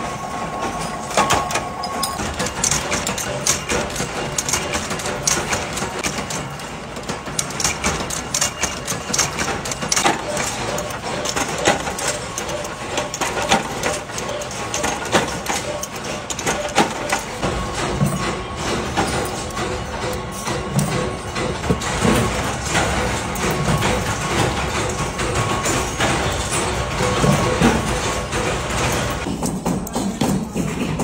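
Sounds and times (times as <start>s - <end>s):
power presses stamping metal: 0.0s - 31.0s
workshop machine noise: 0.0s - 31.0s.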